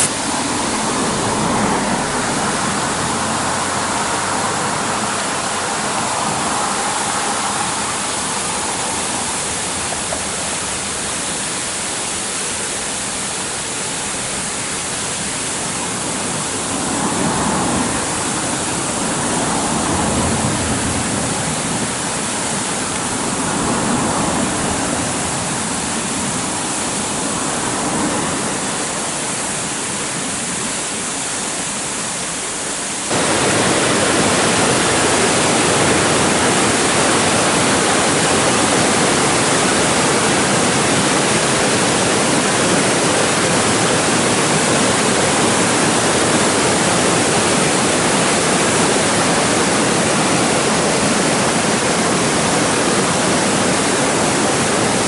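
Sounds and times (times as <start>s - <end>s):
mountain stream rushing water: 0.0s - 55.0s.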